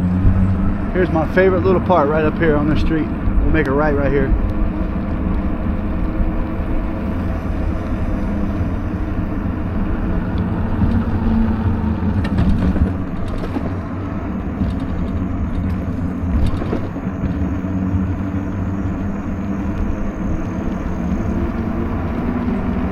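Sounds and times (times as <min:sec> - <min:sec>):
tyres on road: 0:00.0 - 0:22.9
wind on microphone: 0:00.0 - 0:22.9.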